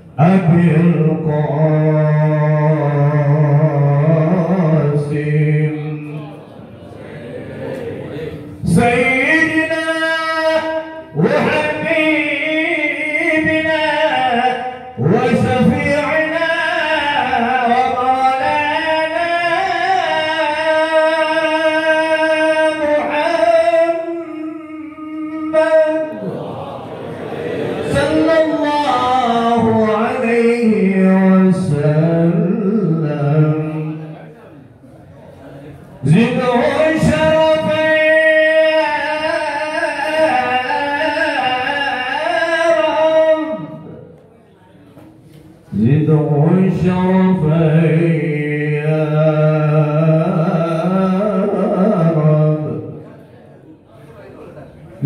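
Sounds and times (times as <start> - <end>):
man singing into microphone: 0.0 - 6.4, 8.5 - 26.3, 27.8 - 34.2, 36.0 - 44.2, 45.6 - 53.1.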